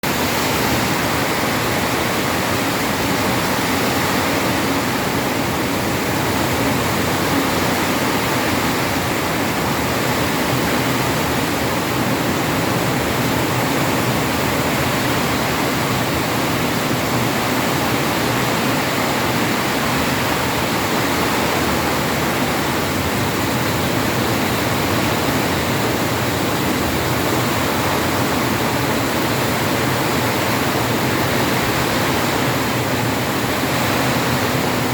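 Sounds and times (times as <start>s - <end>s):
heavy rain downpour: 0.0s - 34.9s.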